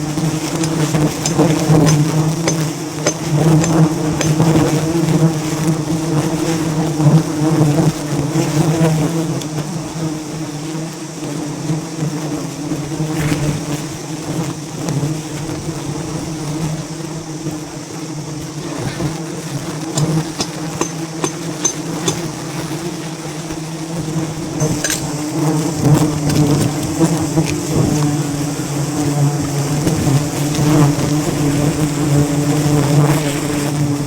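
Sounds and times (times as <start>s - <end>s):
bees buzzing: 0.0s - 34.0s.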